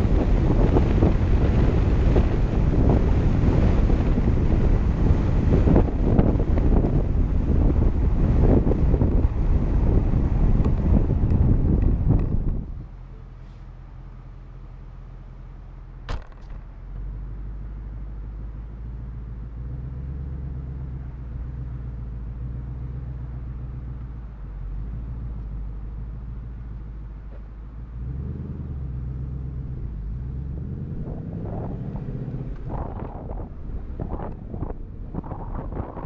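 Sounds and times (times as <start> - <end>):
car engine revving: 0.0 - 13.2, 16.0 - 36.0.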